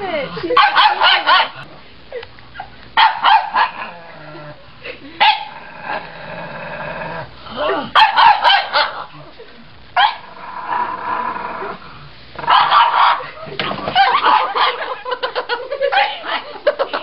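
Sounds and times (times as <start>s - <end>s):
dog growling and barking: 0.2s - 1.8s, 2.6s - 9.2s, 10.0s - 17.0s.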